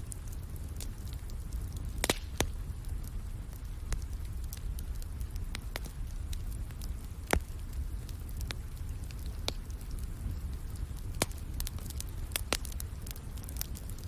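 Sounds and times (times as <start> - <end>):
soft rain: 0.0 - 14.0
wood fire crackling: 0.0 - 14.0.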